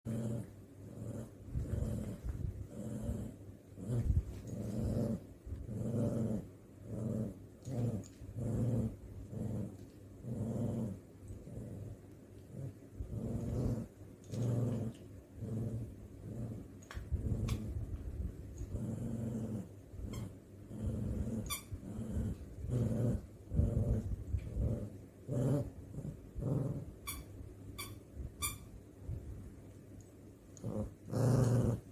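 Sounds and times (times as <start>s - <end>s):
dog growling: 0.0s - 27.0s, 30.6s - 31.9s.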